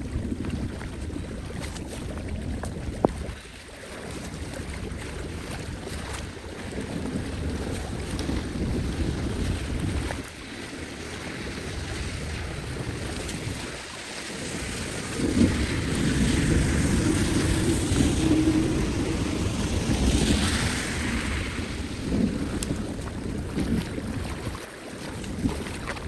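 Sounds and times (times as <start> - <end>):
rushing floodwater: 0.0 - 26.0
wind rumbling on microphone: 0.0 - 26.0.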